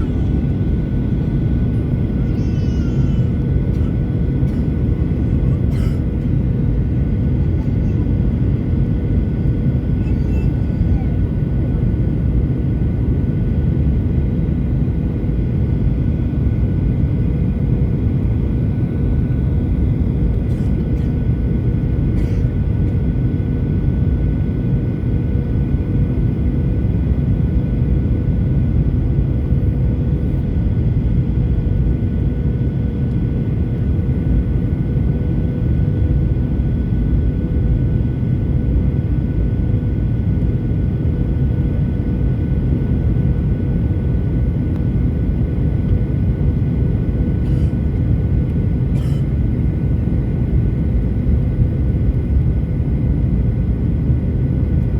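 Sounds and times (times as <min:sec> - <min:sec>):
airliner engine roar in cabin: 0:00.0 - 0:54.9.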